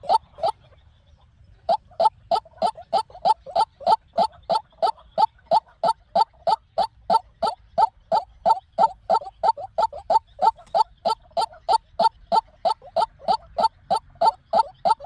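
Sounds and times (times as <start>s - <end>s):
waterhen harsh croaking calls: 0.0s - 0.7s, 1.5s - 15.0s.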